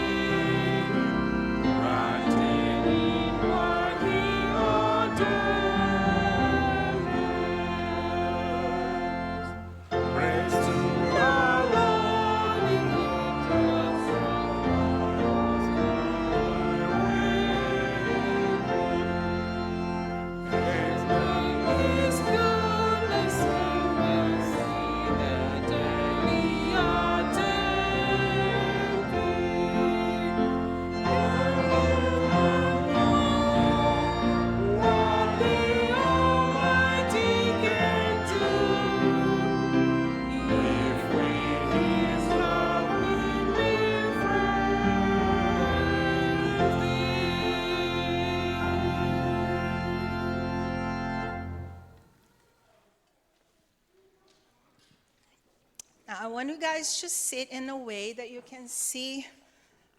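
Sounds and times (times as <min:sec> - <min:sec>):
group singing a hymn: 0:00.0 - 0:52.0
instrumental accompaniment: 0:00.0 - 0:52.3.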